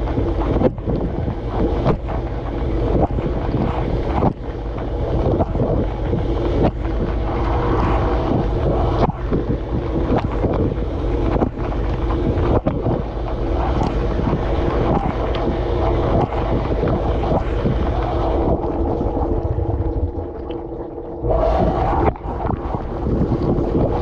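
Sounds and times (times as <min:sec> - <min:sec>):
pump hum: 0:00.0 - 0:24.0.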